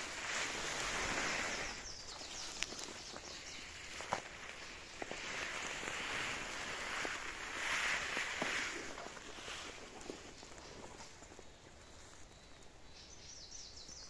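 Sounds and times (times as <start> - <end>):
twigs cracking: 0.0 - 12.3
branches and foliage rustling: 0.0 - 14.0.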